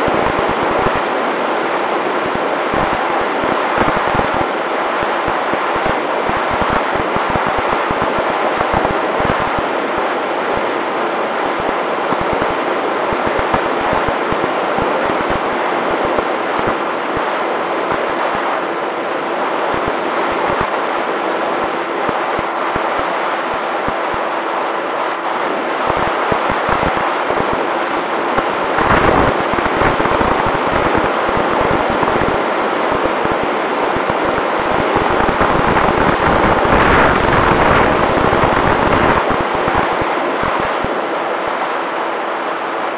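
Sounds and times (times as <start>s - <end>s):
wind rushing over camera: 0.0s - 42.9s.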